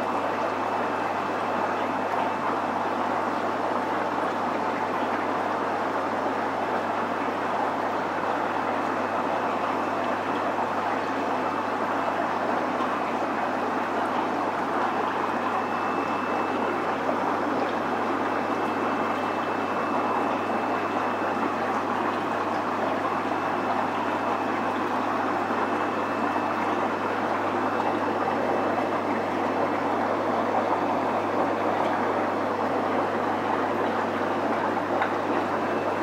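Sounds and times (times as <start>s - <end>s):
water rushing and trickling: 0.1s - 36.0s.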